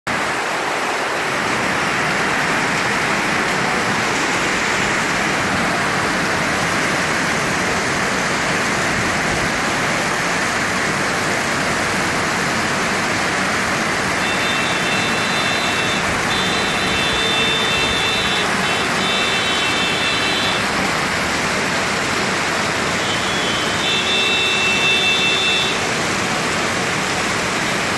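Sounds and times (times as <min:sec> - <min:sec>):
heavy rain pouring: 0:00.1 - 0:27.9.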